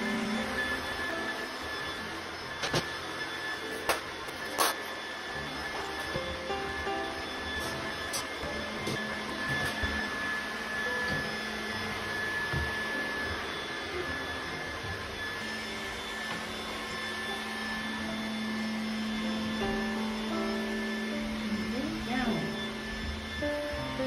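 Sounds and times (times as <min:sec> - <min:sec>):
robot vacuum motor whir: 0:00.0 - 0:24.0.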